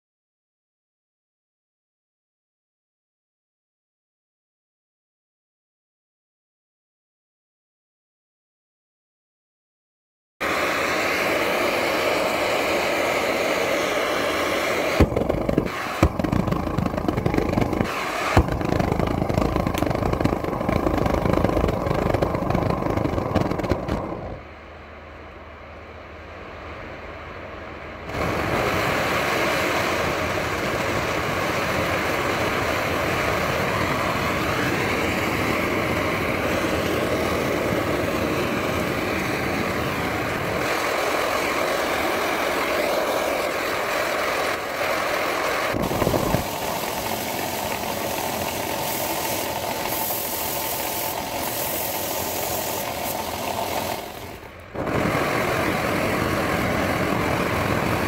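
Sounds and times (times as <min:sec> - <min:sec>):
forge burner roaring: 0:10.4 - 0:58.0.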